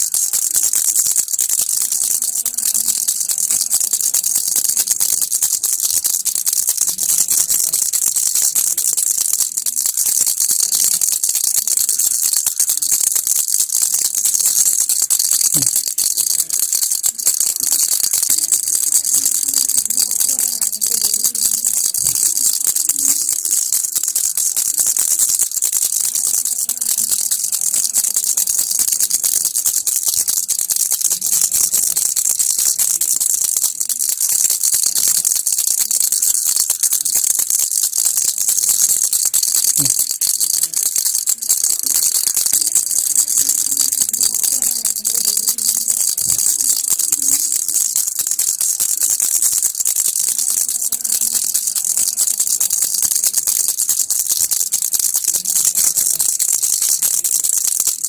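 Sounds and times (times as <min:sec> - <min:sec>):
toy rattle shaken: 0:00.0 - 0:58.0.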